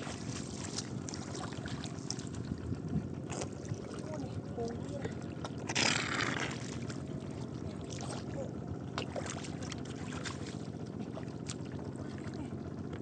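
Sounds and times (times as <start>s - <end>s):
water splashing: 0.0s - 12.5s
steady low rumble: 0.0s - 13.0s.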